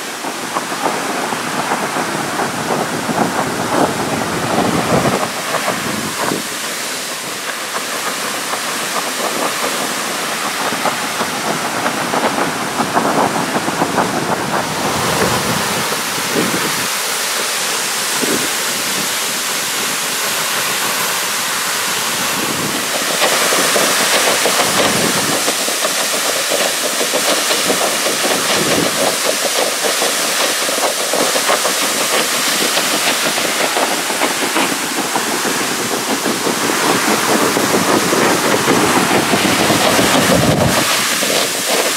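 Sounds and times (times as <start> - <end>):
high-pressure water rushing: 0.0 - 41.9
spray falling like rain: 0.0 - 41.9.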